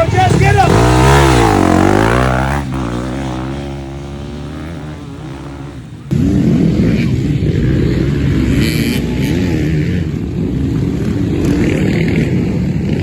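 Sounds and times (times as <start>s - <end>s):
dirt bike engine pulling away: 0.0s - 13.0s
dirt bike engine revving: 0.0s - 13.0s.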